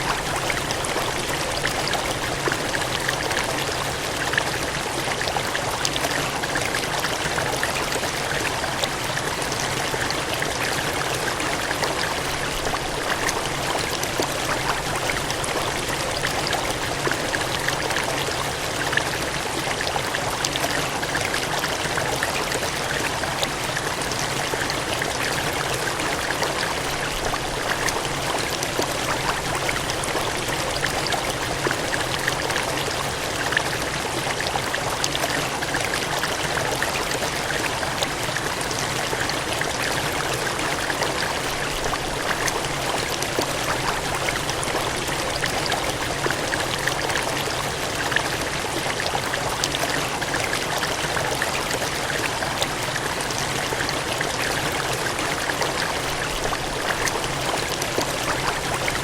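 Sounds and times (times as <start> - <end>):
water gushing and cascading: 0.0 - 59.0.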